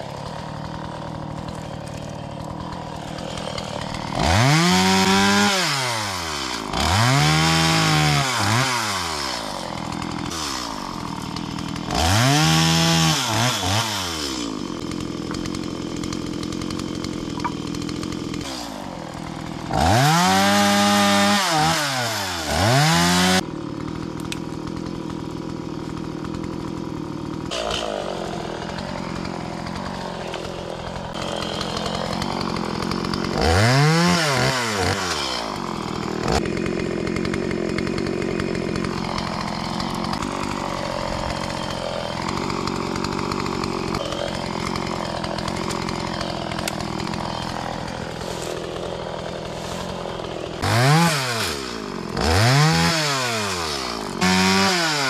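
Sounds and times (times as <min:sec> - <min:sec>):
chainsaw idling and revving: 0:00.0 - 0:55.0.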